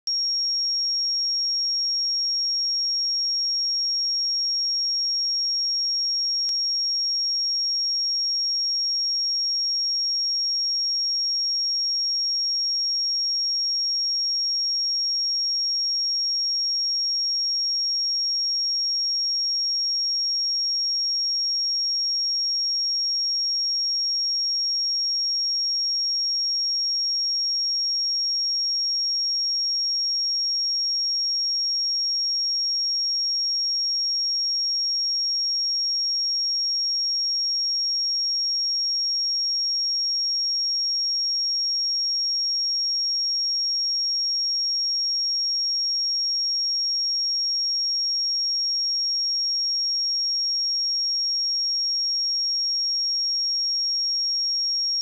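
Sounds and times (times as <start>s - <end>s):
high-pitched sine test tone: 0.1s - 22.4s, 32.6s - 55.0s.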